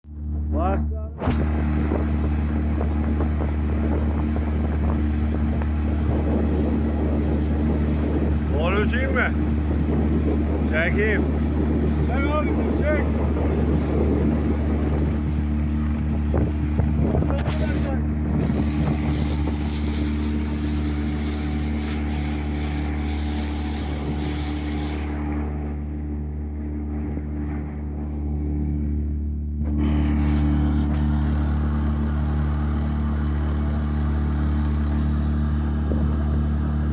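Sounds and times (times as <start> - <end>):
outboard motor droning: 0.0 - 36.9
rush of wind and water: 1.2 - 27.4, 29.8 - 36.9.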